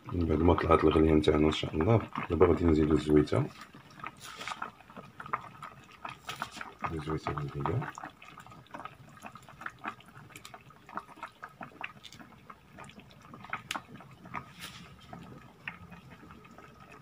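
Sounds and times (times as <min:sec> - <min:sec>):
sauce bubbling in a pan: 0:00.0 - 0:17.0
pops and sputters: 0:03.4 - 0:17.0.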